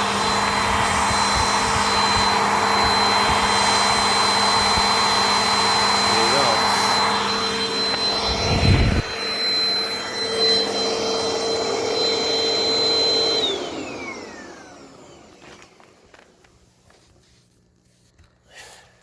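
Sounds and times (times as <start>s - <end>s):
vacuum motor winding down: 0.0s - 16.2s
vacuum cleaner running with high whine: 0.0s - 17.1s.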